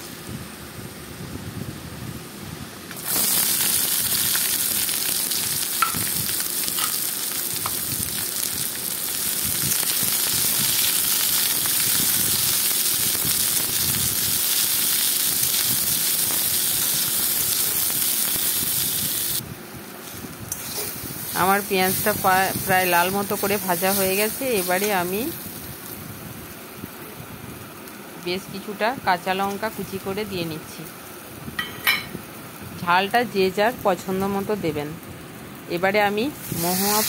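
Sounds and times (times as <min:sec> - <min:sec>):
garlic and onions sizzling in oil: 0:00.0 - 0:37.0.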